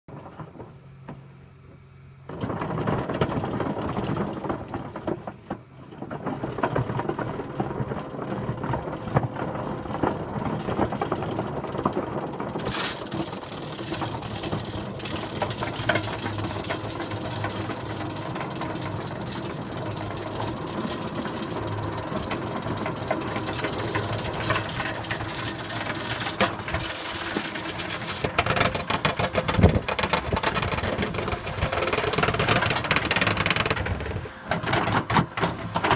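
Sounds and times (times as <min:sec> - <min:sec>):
duct-cleaning equipment running: 0:00.1 - 0:35.9.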